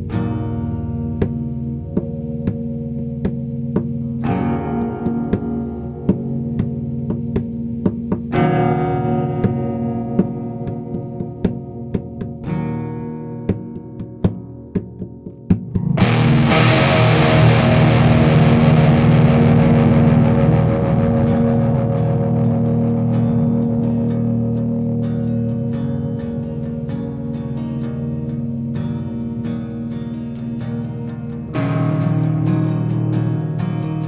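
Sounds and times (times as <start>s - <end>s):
distorted guitar wash: 0.0s - 34.0s
guitar chords ringing: 0.0s - 34.0s
ticking beat: 0.0s - 34.0s.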